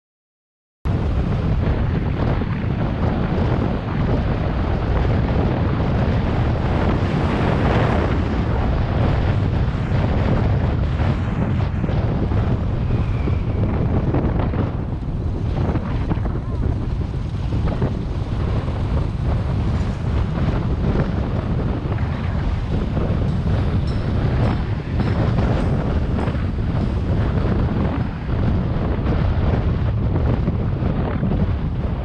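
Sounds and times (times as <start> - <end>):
road noise: 0.9 - 32.0
wind buffeting microphone: 0.9 - 32.0.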